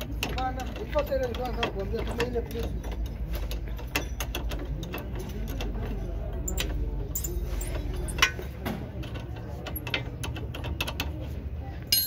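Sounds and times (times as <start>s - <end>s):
wrench clinking against metal: 0.0s - 11.1s.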